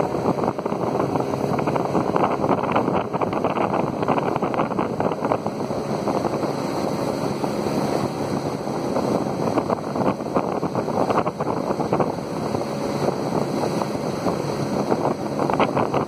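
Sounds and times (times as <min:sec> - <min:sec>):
outboard motor running: 0:00.0 - 0:16.0
water rushing along hull: 0:00.0 - 0:16.0
wind buffeting microphone: 0:00.0 - 0:16.0.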